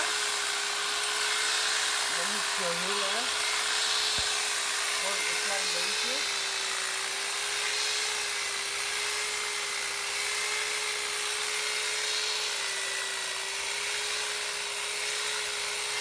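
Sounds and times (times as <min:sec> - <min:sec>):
electric hedge trimmer running: 0:00.0 - 0:16.0.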